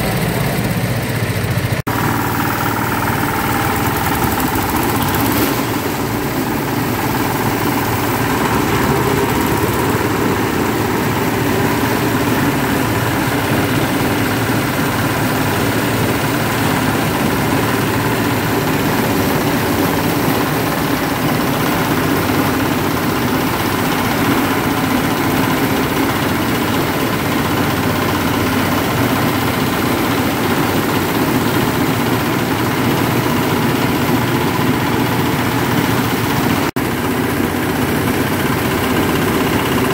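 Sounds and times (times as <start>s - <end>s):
diesel engines running: 0.0s - 39.9s
grass chopper shredding: 0.0s - 39.9s.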